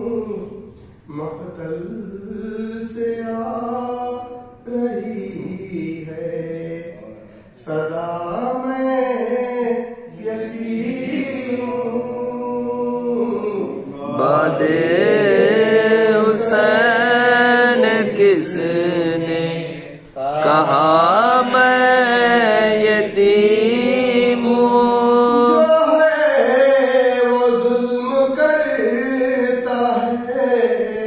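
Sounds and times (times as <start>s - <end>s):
man chanting a lament: 0.0s - 31.0s.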